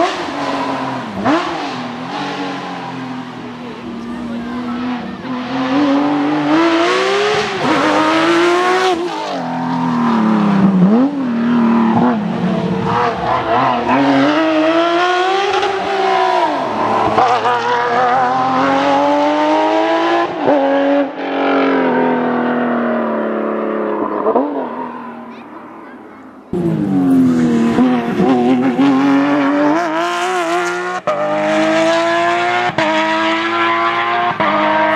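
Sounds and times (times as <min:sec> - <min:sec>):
rally car engine at full throttle: 0:00.0 - 0:34.9.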